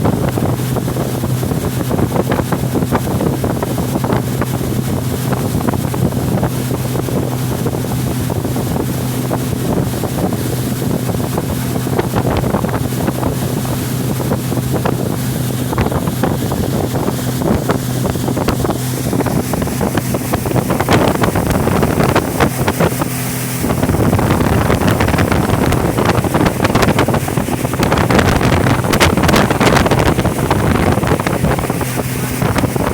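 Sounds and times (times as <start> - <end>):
motorboat engine running: 0.0 - 32.9
rushing water: 0.0 - 32.9
wind noise on microphone: 0.0 - 32.9.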